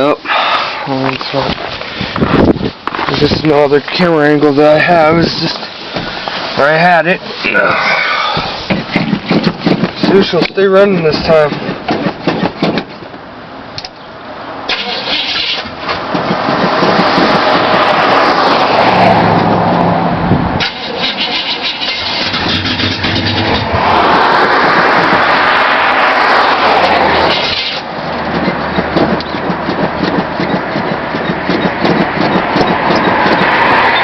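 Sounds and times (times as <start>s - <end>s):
truck engine running rough: 0.0s - 13.5s, 14.7s - 34.0s.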